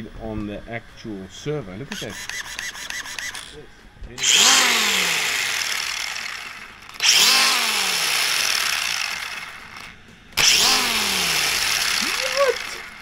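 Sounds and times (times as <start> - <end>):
rc car motor whining: 2.0 - 3.6, 4.2 - 13.0.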